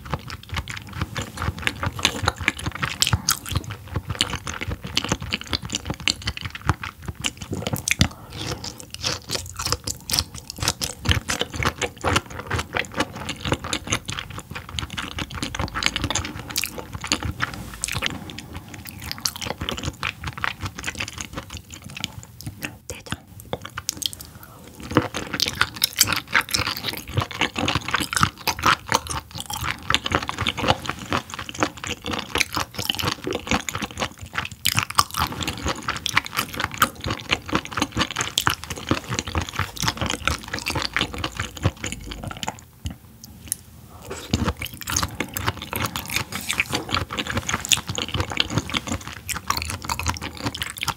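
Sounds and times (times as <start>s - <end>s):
wet chewing mouth sounds: 0.0s - 50.9s.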